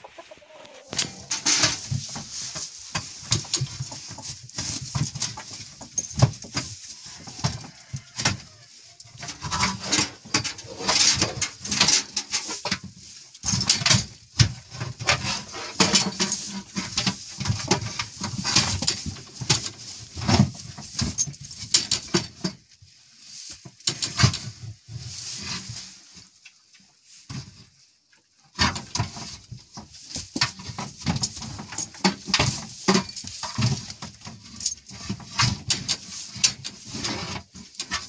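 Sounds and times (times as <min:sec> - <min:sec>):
cattle knocks rustles and clatters: 0:00.0 - 0:38.0.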